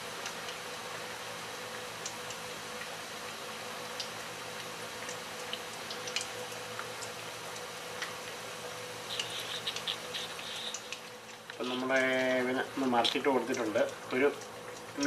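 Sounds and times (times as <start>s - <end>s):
fritters deep-frying in oil: 0.0s - 15.0s
oil popping and crackling: 0.0s - 15.0s.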